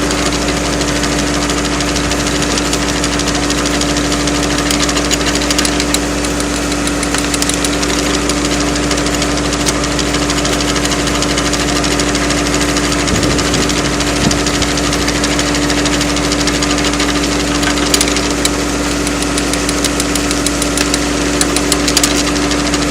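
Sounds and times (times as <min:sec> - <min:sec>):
log splitter engine running: 0:00.0 - 0:22.9
sharp clicks: 0:00.1 - 0:22.9.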